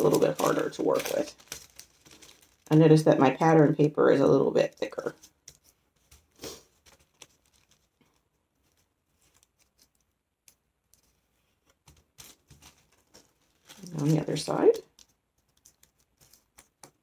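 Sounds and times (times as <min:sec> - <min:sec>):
tissue paper rustling: 0:00.0 - 0:02.8, 0:05.0 - 0:10.2, 0:10.8 - 0:17.0.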